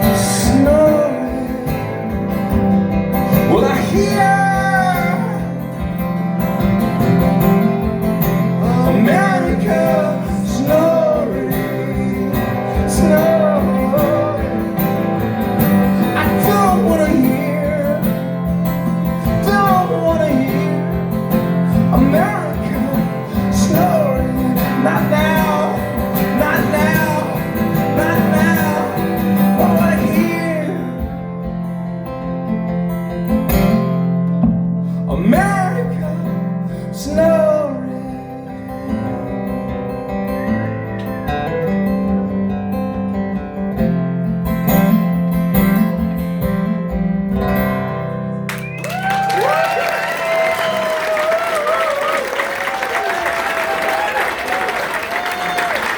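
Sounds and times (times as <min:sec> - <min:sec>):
strummed acoustic guitar: 0:00.0 - 0:48.6.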